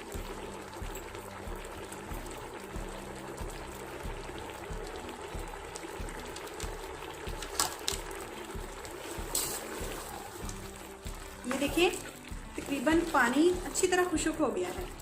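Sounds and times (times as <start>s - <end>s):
pot bubbling on stove: 0.0s - 15.0s.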